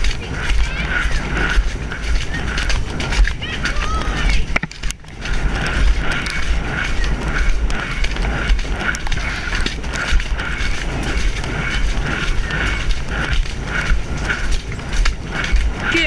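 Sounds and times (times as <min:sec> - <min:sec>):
rhythmic rattle of cantering horse: 0:00.0 - 0:16.0
wind on microphone: 0:00.0 - 0:16.0.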